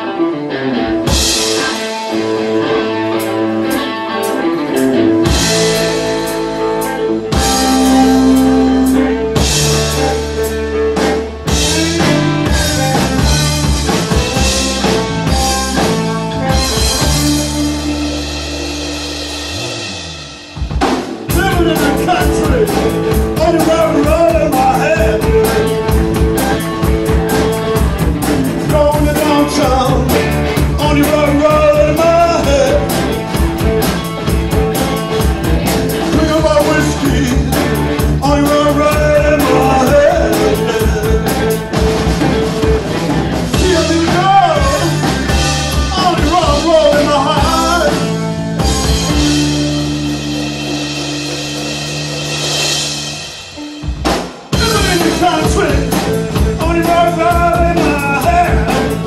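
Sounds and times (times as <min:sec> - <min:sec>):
live blues-rock band playing: 0:00.0 - 0:59.0.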